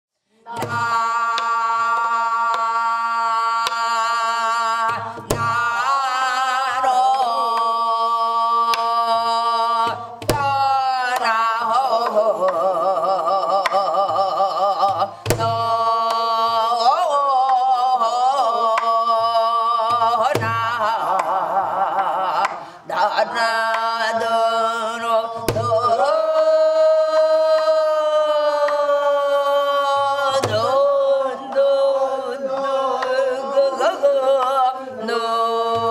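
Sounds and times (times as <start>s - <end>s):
wordless vocal melody with vibrato: 0.3s - 35.9s.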